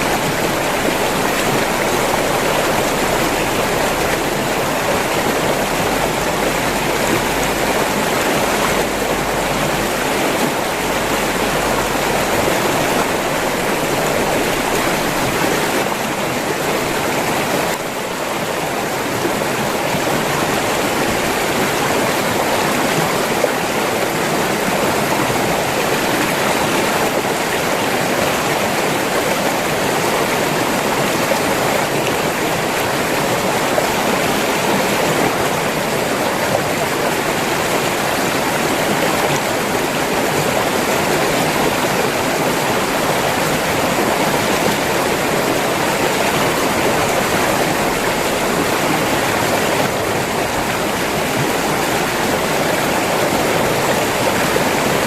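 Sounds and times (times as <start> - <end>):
river water over rocks: 0.0 - 55.0.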